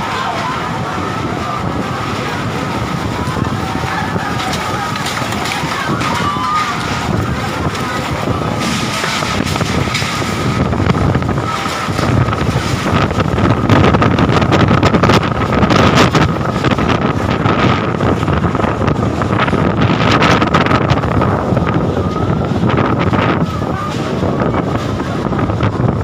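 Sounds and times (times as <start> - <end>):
strong gusting wind: 0.0 - 26.0.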